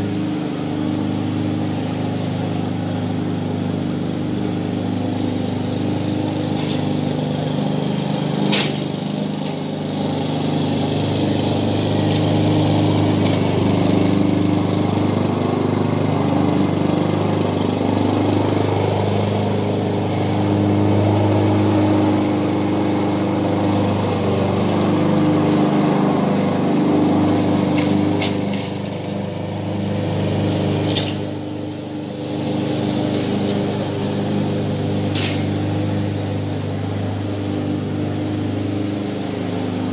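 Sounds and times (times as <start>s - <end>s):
petrol lawn mower engine: 0.0s - 39.9s.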